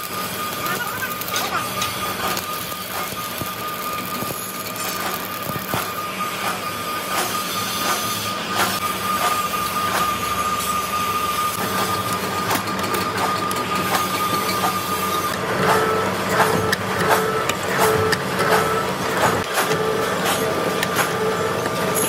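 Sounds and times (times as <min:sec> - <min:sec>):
machine high whine: 0:00.0 - 0:22.0.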